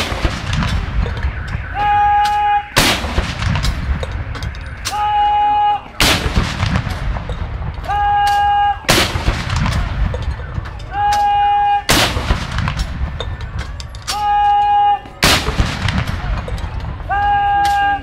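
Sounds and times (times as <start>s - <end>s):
field guns firing blanks: 0.0s - 18.0s.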